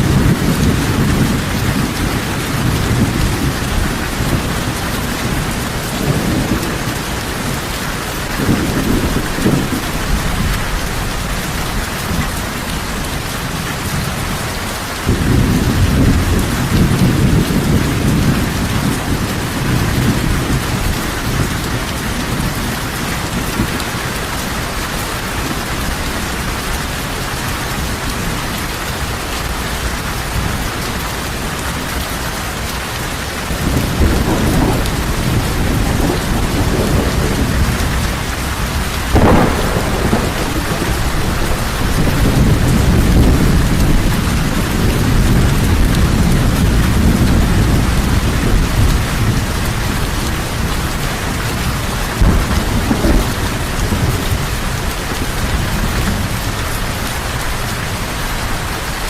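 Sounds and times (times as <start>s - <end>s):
heavy rain falling: 0.0s - 59.0s
thunder rumbling: 0.0s - 59.0s.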